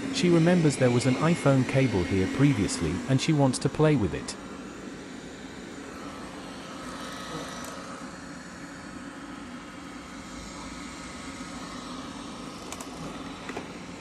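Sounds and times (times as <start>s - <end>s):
robotic vacuum motor hum: 0.0s - 14.0s.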